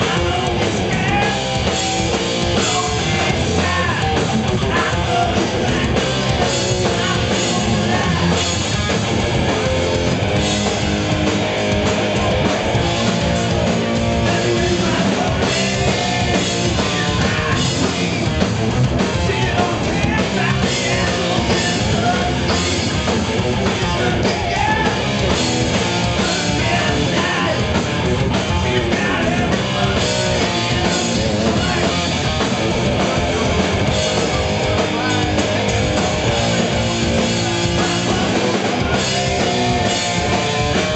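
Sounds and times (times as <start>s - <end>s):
drum kit: 0.0s - 40.9s
electric bass: 0.0s - 40.9s
electric guitars: 0.0s - 40.9s.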